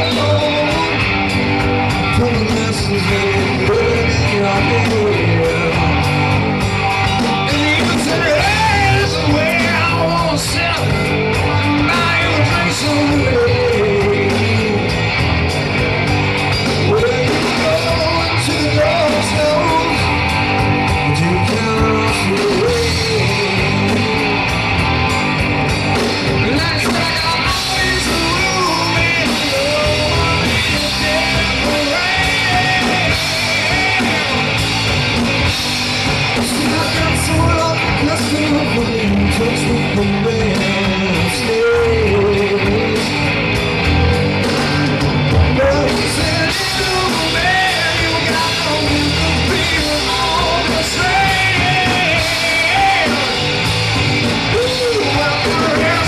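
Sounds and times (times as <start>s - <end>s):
drums: 0.0s - 56.0s
electric guitars: 0.0s - 56.0s
man singing lead: 0.0s - 56.0s.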